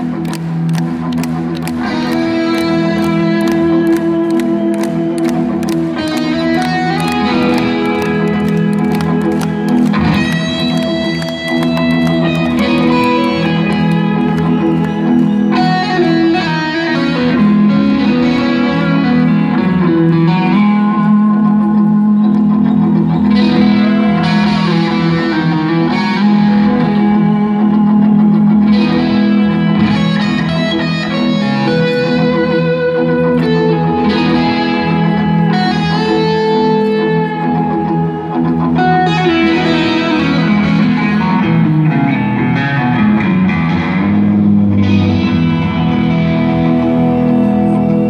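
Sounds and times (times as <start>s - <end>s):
distorted electric guitar solo: 0.0s - 48.0s.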